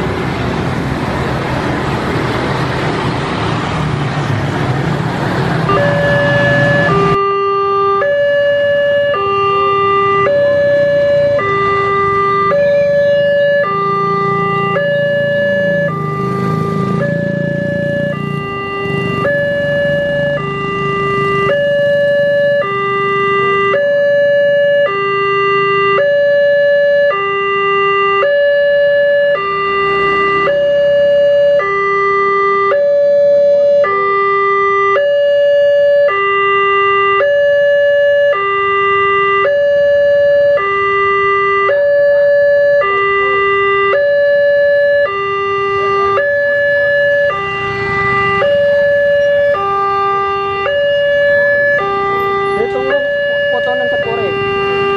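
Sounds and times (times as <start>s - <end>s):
level crossing two-tone alarm: 5.7s - 54.9s.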